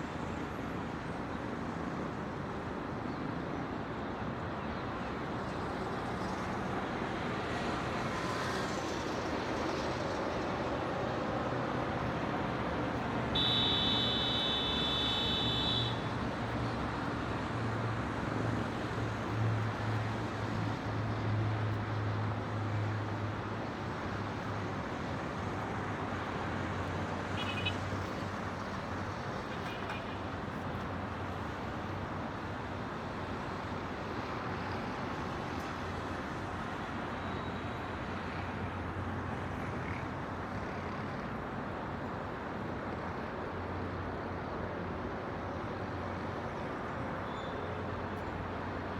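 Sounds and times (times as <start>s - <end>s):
distant city traffic: 7.7s - 48.9s.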